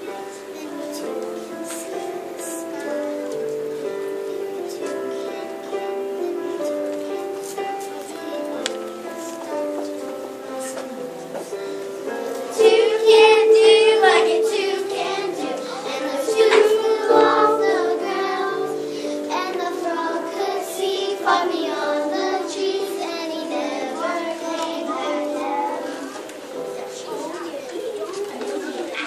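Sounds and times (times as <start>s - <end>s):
children singing: 0.0s - 27.5s
instrumental accompaniment: 0.0s - 28.6s.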